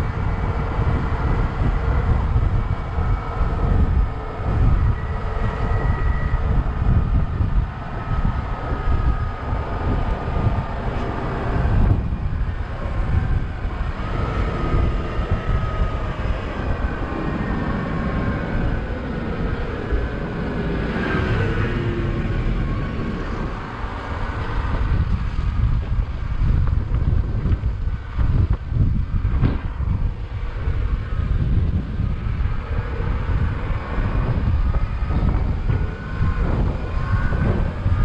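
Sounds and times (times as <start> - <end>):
bus engine low rumble: 0.0 - 38.0
faint whine: 0.0 - 38.0.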